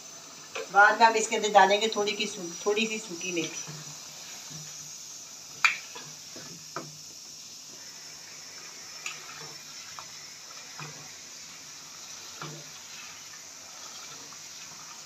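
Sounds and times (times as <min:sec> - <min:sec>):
curry sizzling in a pot: 0:00.0 - 0:15.0.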